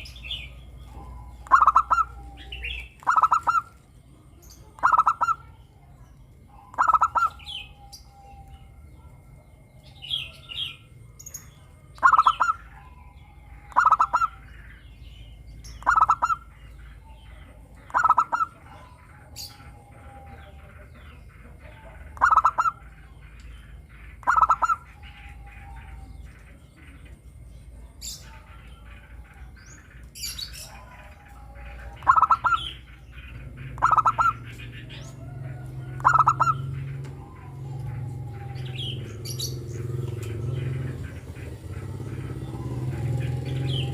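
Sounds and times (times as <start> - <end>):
dove cooing: 0.0 - 43.9
small birds chirping faintly: 0.0 - 43.9.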